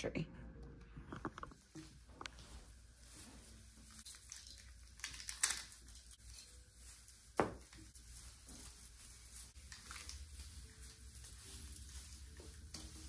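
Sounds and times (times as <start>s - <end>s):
artificial tree rustling: 1.6s - 13.0s.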